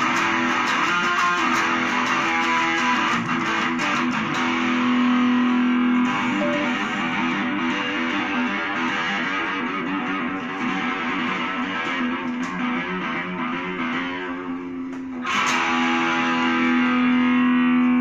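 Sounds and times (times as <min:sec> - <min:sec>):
electric guitar: 0:00.0 - 0:18.0.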